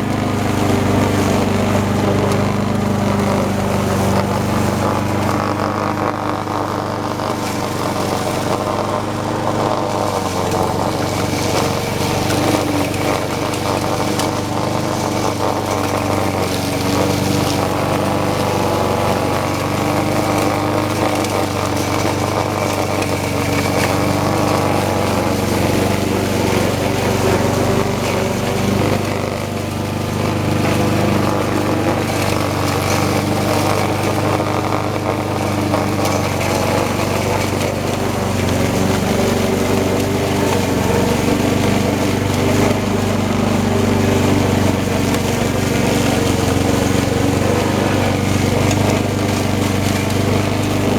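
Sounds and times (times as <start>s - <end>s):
lawn mower engine mowing grass: 0.0s - 50.9s.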